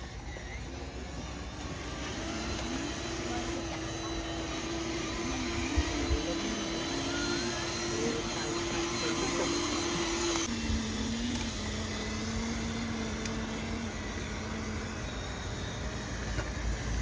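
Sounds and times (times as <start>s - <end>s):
small electric motor running: 0.0s - 17.0s.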